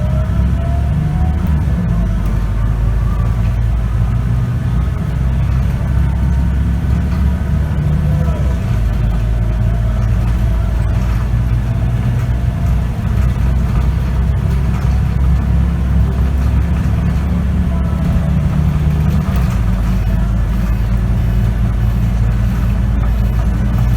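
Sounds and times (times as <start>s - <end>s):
bus diesel engine droning: 0.0s - 23.9s
road noise: 0.0s - 23.9s.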